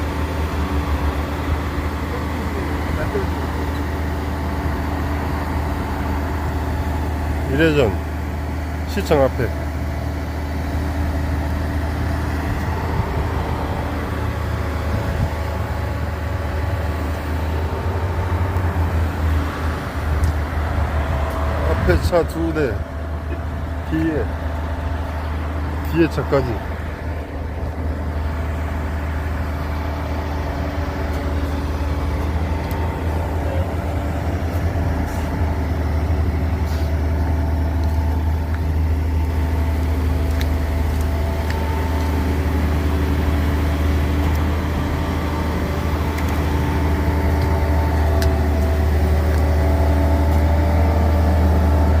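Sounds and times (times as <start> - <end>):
diesel engine running under load: 0.0 - 52.0.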